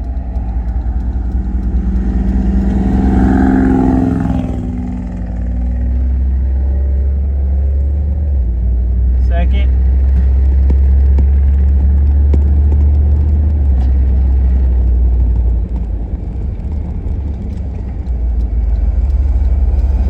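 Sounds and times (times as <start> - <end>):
pickup truck engine rumble: 0.0 - 20.0
road noise: 0.0 - 20.0.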